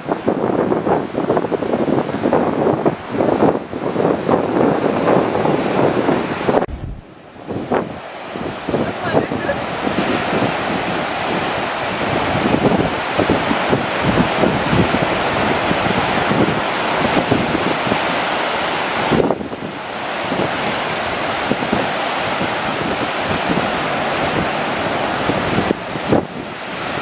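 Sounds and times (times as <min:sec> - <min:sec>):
wind buffeting microphone: 0:00.0 - 0:27.0
surf breaking on rocks: 0:00.8 - 0:27.0.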